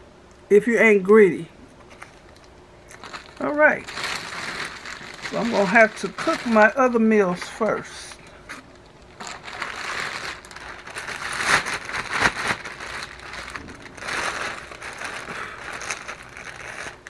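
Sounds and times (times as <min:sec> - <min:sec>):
plastic packaging crinkling: 0:01.8 - 0:17.0.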